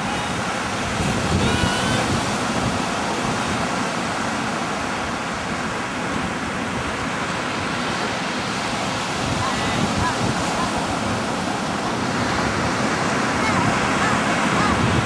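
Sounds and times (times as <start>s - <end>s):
surf breaking on shore: 0.0s - 15.0s
wind across microphone: 0.0s - 15.0s.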